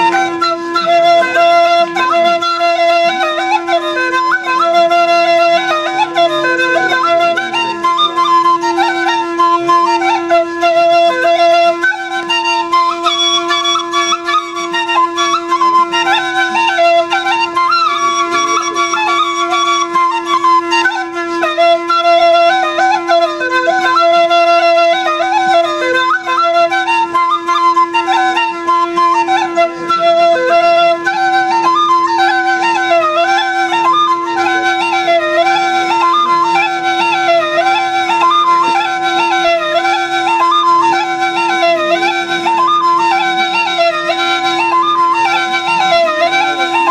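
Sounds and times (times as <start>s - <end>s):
double flute folk melody: 0.0s - 46.9s
flute drone: 0.0s - 46.9s.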